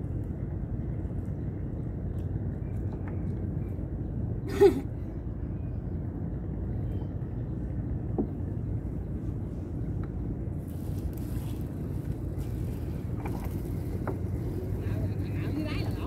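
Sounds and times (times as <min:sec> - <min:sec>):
small boat engine humming: 0:00.0 - 0:16.0.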